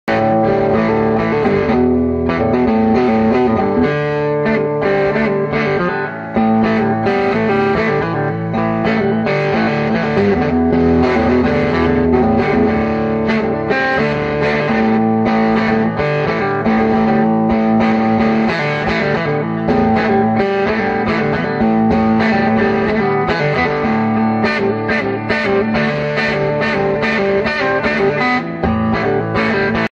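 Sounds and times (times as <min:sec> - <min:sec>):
electric guitar music: 0:00.0 - 0:29.9.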